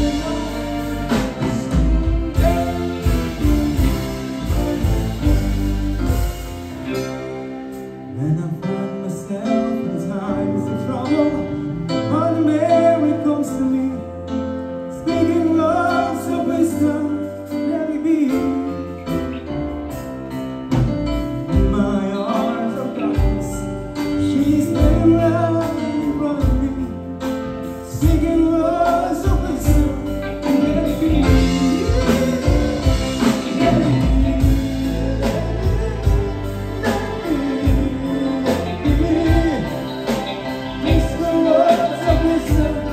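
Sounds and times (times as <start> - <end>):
live band playing: 0.0 - 42.9.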